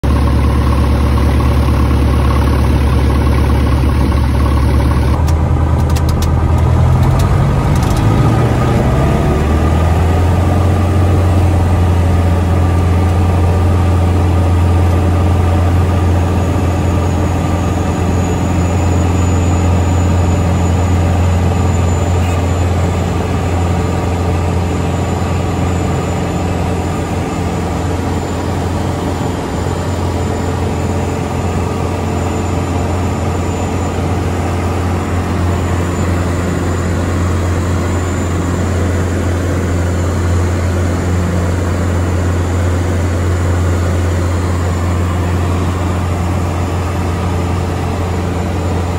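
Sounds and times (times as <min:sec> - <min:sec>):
light aircraft engine and propeller: 0:00.0 - 0:48.9.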